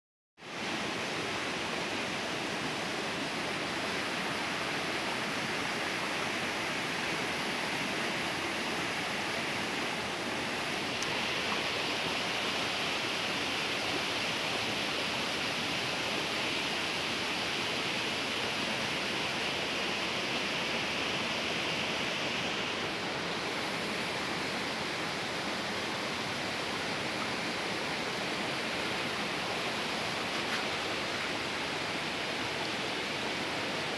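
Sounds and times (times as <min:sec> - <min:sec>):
stream water running over stones: 0:00.4 - 0:33.9.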